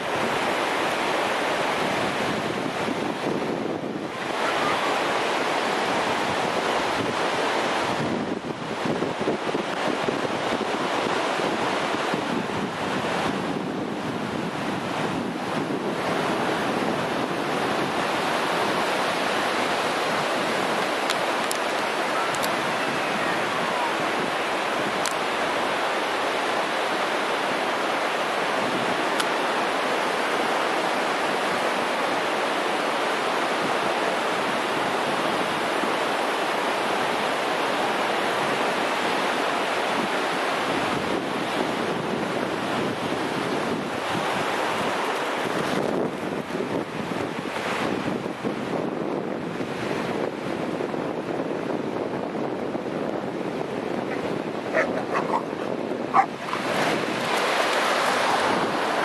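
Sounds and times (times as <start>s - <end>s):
ocean surf breaking on beach: 0.0s - 59.0s
wind on microphone: 0.0s - 59.0s.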